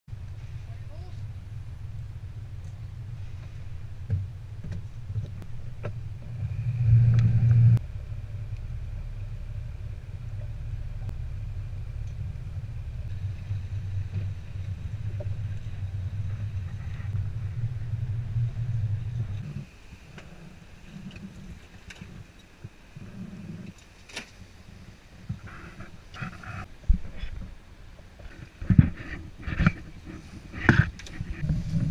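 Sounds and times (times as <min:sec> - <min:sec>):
wind: 0:00.0 - 0:31.9
boat engine rumbling: 0:00.1 - 0:31.9
sea noise: 0:00.2 - 0:31.9.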